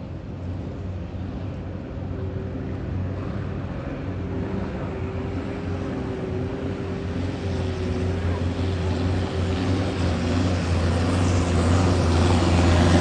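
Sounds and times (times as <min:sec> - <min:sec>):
boat engine droning: 0:00.0 - 0:13.0
water noise: 0:00.0 - 0:13.0.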